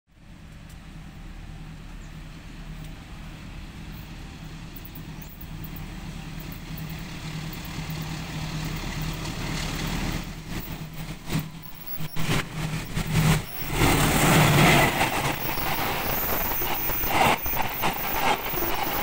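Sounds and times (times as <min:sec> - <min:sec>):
locomotive engine humming: 0:00.1 - 0:19.0.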